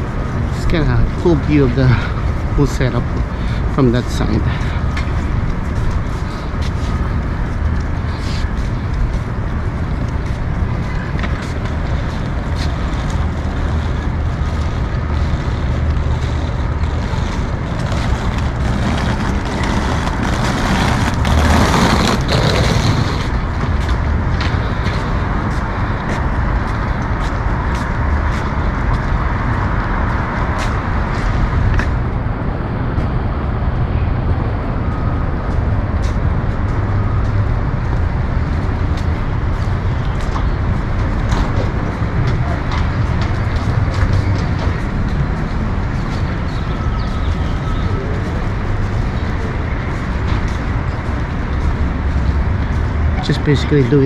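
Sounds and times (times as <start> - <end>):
loud vehicle passing: 0.0 - 54.0
passing vehicles: 0.0 - 54.0.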